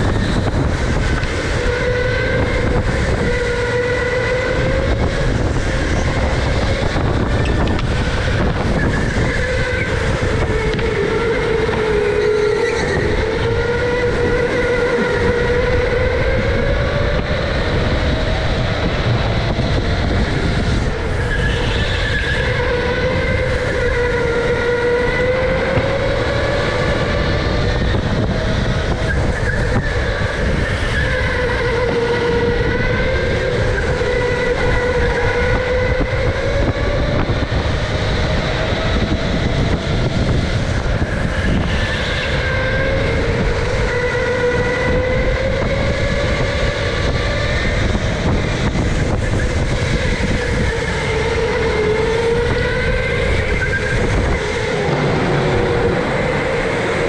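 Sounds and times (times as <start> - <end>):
electric motor whining: 0.0 - 57.0
steady low rumble: 0.0 - 57.0.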